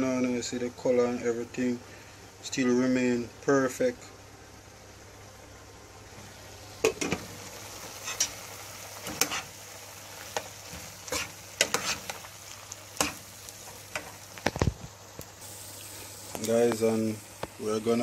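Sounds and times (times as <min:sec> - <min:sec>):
low steady sizzle: 0:00.0 - 0:18.0.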